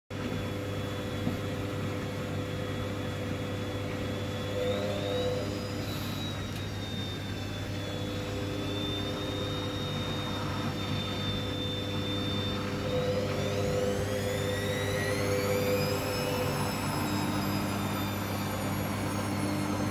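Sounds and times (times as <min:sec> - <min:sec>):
washing machine motor whining: 0:00.1 - 0:19.9.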